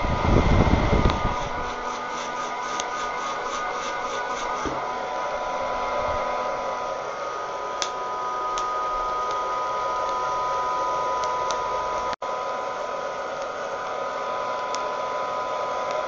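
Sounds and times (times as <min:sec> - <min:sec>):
popcorn popper fan whine: 0:00.0 - 0:16.0.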